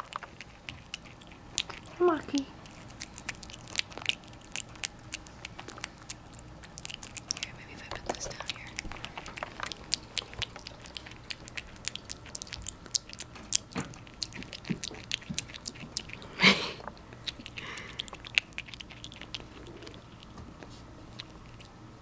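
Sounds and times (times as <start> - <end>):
animal chewing clicks: 0.0 - 2.0, 2.6 - 21.8.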